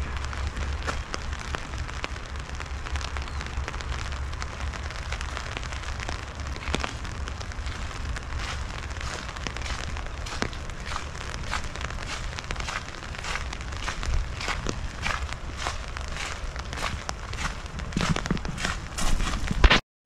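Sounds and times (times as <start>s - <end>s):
rain pattering on an umbrella: 0.0s - 19.8s
steady low rumble: 0.0s - 19.8s.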